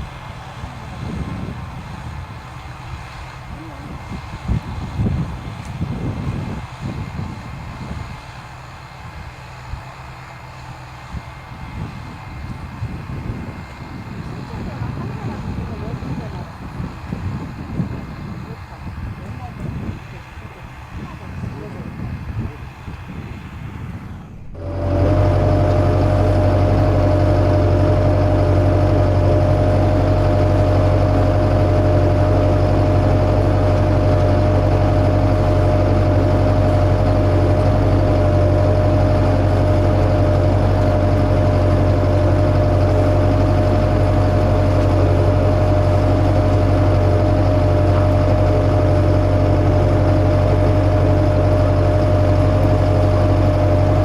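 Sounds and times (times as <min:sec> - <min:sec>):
machine engine running steadily: 0:00.0 - 0:54.0.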